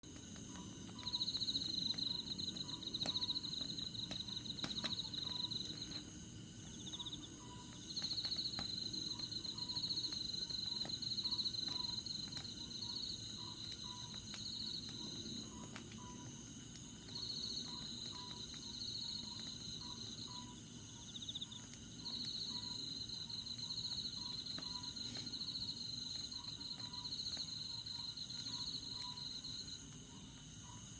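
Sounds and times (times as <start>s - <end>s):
campfire crackling: 0.1s - 30.6s
crickets trilling: 0.1s - 30.9s.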